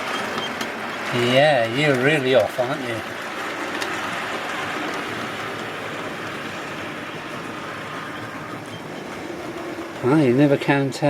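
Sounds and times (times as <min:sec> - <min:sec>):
model train motors whirring: 0:00.0 - 0:11.0
wheels rumbling on track: 0:00.0 - 0:11.0.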